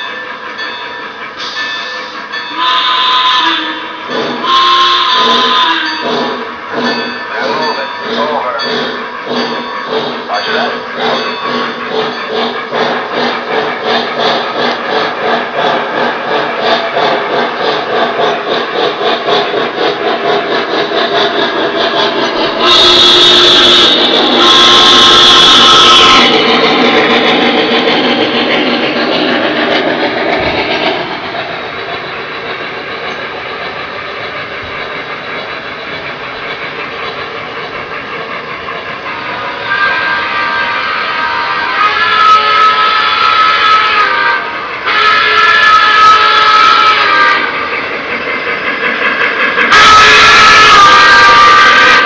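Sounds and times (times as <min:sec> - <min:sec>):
model steam locomotive chuffs: 0:00.0 - 0:52.0.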